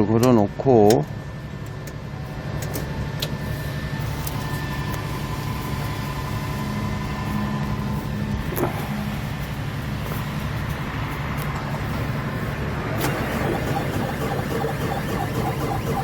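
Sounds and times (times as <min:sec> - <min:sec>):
diesel engine idling: 0:01.2 - 0:16.0.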